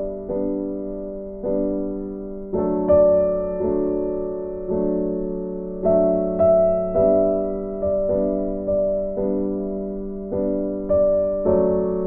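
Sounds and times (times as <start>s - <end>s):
gentle piano chords: 0.0s - 12.0s.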